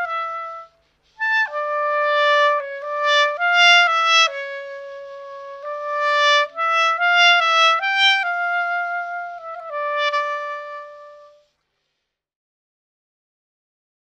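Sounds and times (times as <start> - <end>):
clarinet playing held notes: 0.0 - 11.4.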